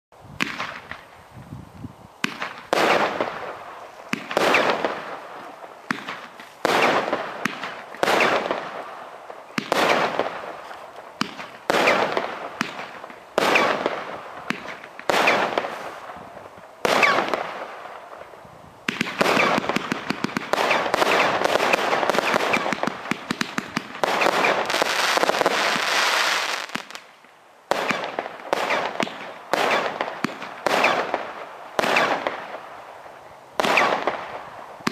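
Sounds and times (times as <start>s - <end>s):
firework bangs: 0.4s - 1.1s, 2.2s - 27.1s, 27.7s - 32.8s, 33.6s - 34.9s
firework crackling: 2.2s - 34.9s.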